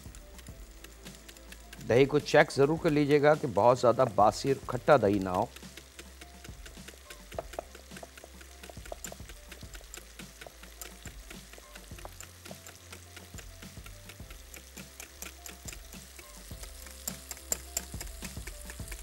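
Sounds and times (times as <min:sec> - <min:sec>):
soft background music: 0:00.0 - 0:19.0
whisk clicking against glass bowl: 0:00.1 - 0:19.0.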